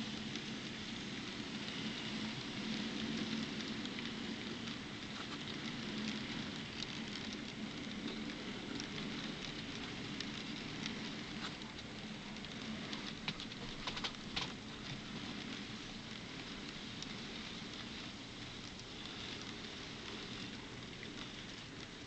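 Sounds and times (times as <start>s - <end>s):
model train rolling with hum: 0.0s - 22.0s.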